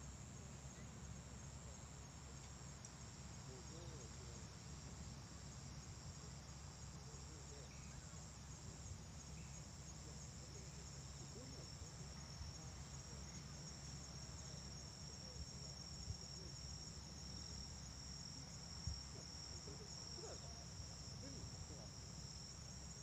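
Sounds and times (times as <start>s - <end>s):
insects trilling: 0.2s - 23.0s.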